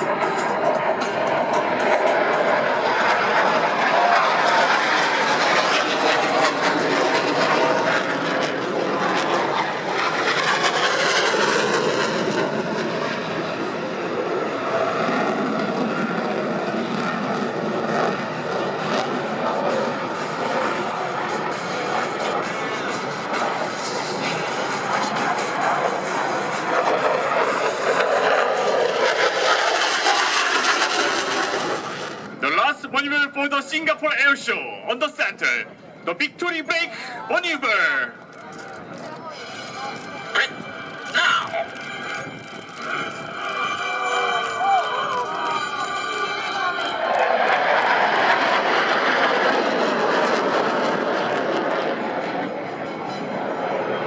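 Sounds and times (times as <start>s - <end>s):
jet engines in flight: 0.0s - 54.0s.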